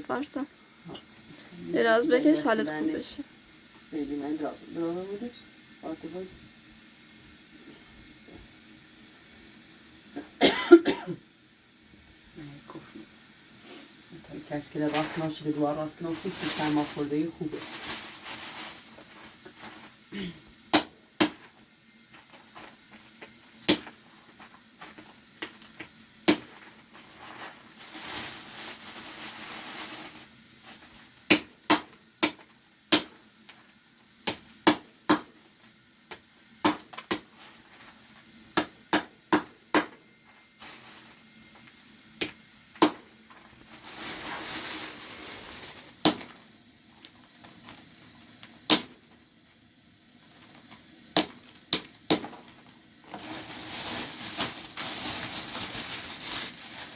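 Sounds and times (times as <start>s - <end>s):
soft hiss: 0.0s - 38.6s, 40.0s - 56.9s.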